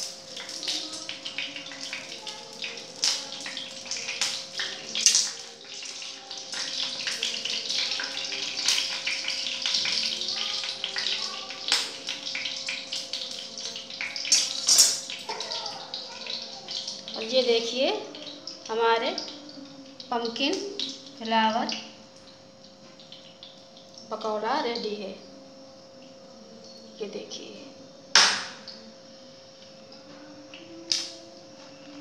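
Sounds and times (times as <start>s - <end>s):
oil sizzling and popping in pan: 0.0s - 25.0s, 28.1s - 28.9s, 29.6s - 31.2s.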